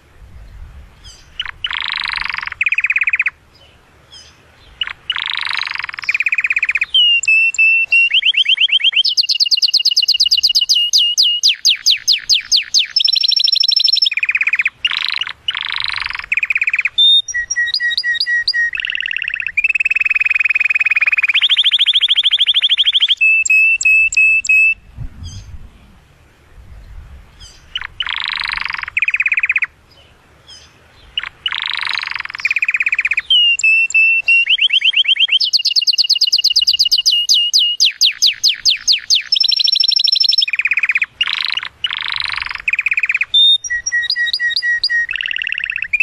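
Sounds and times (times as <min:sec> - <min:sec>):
canary singing trills: 0:01.0 - 0:25.5, 0:27.3 - 0:46.0.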